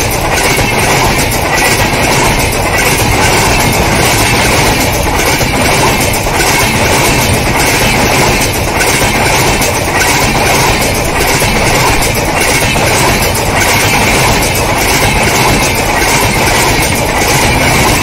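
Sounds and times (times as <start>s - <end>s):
rhythmic clickety-clack: 0.0s - 18.0s
train wheels rumbling on rail: 0.0s - 18.0s.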